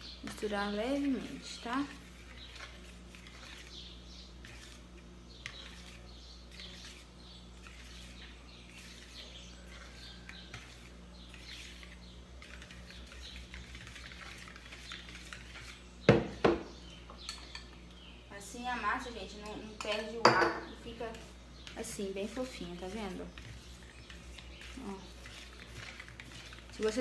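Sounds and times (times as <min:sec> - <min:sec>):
beater scraping through batter: 0:00.3 - 0:16.6, 0:20.8 - 0:27.0.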